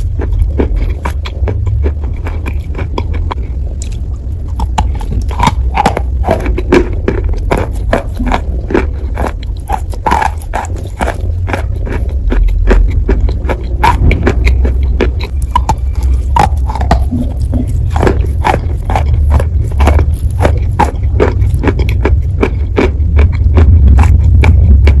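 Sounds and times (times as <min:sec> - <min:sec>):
crisp chewing crunches: 0:00.0 - 0:25.0
steady low rumble: 0:00.0 - 0:25.0.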